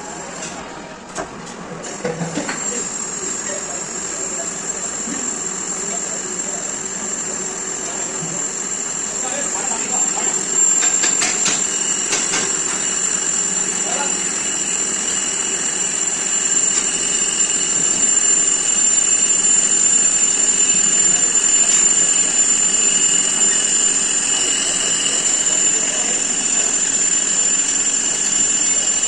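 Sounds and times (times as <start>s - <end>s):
metalworking machine hissing: 1.8s - 29.0s
thin high whine: 1.8s - 29.0s.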